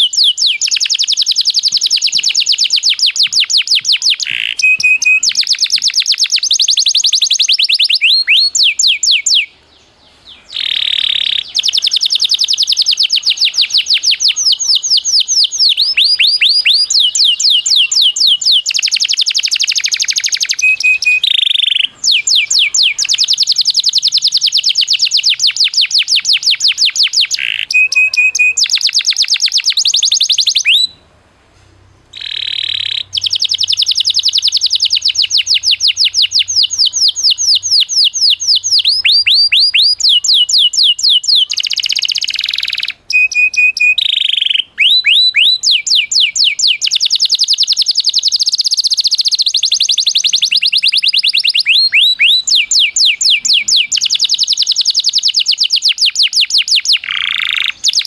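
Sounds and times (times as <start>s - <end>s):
songbird trills: 0.0s - 31.1s, 32.1s - 58.0s.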